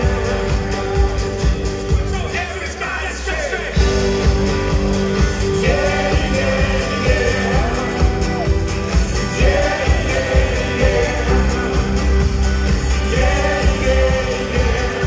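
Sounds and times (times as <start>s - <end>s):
live rock band playing: 0.0s - 2.5s, 3.8s - 15.0s
heavy bass: 0.0s - 15.0s
person singing lead vocals: 0.0s - 15.0s.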